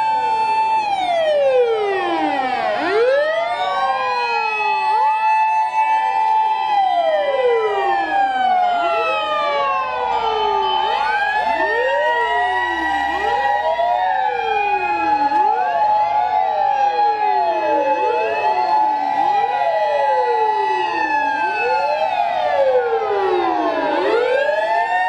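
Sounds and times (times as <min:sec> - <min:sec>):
fire engine sirens wailing: 0:00.0 - 0:25.0.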